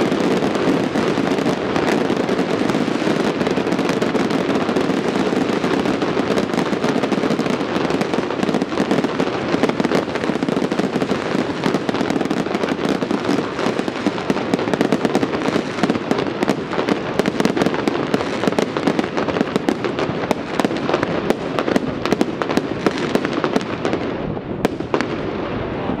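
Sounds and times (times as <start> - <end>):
fireworks popping and crackling: 0.0 - 26.0.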